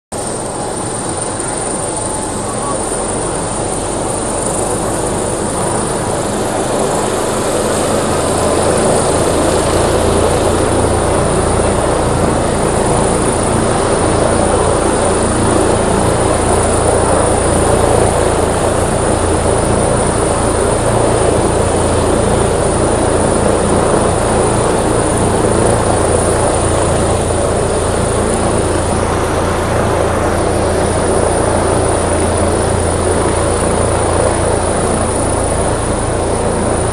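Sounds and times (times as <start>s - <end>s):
high turbine whine: 0.1s - 36.9s
low rotor rumble: 0.1s - 36.9s.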